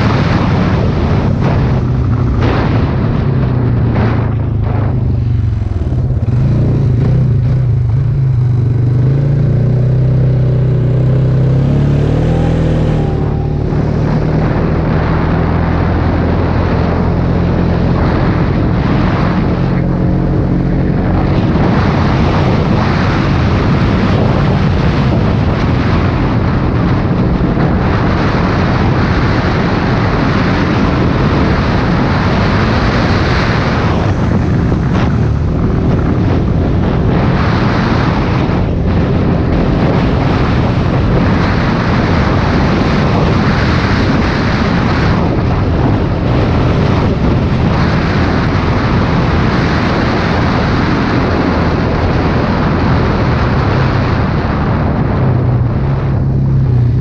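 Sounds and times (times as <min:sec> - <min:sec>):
atv engine accelerating: 0:00.0 - 0:57.0
wind buffeting microphone: 0:00.0 - 0:57.0.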